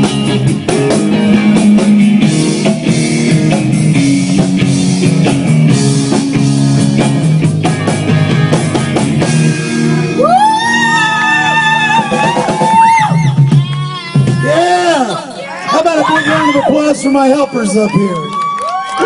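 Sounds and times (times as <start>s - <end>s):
drum kit: 0.0s - 15.3s
electric guitar: 0.0s - 17.1s.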